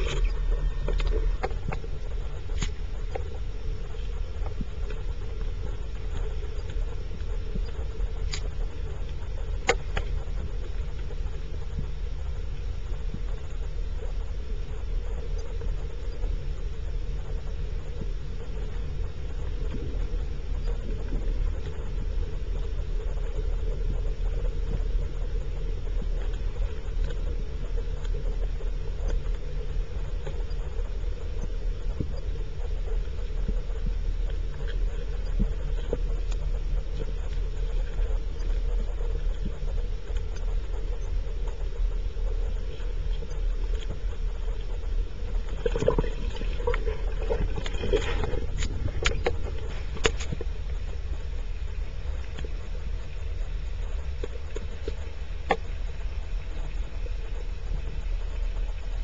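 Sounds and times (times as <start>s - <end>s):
faint clicks: 0.0s - 11.9s, 17.3s - 59.0s
low hum: 0.0s - 59.0s
underwater rumble: 0.0s - 59.0s.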